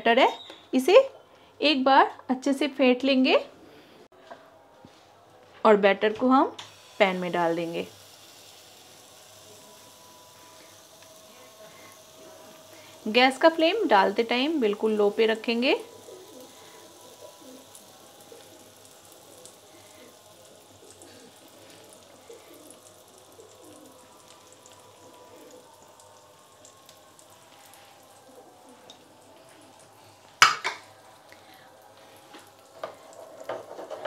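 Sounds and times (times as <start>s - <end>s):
batter sizzling in oil: 6.6s - 34.0s.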